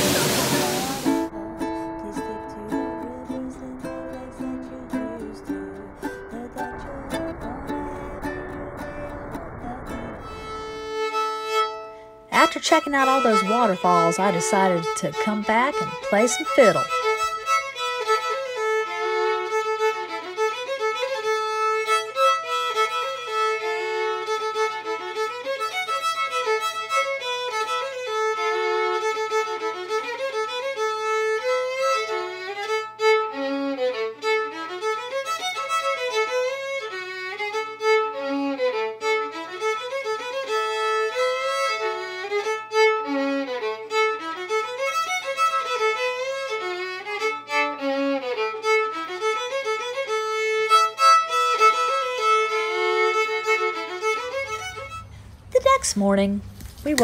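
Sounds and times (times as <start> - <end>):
fiddle playing a tune: 0.0 - 56.3.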